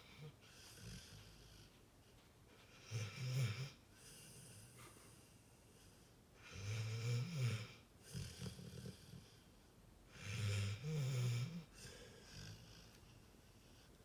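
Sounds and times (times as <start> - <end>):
dog snoring: 0.0 - 1.8, 2.6 - 4.9, 5.8 - 9.5, 10.1 - 13.9.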